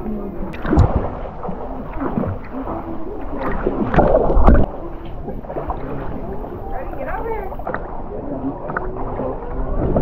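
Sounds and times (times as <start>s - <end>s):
water sloshing and gurgling: 0.0s - 10.0s
water splash: 0.0s - 10.0s.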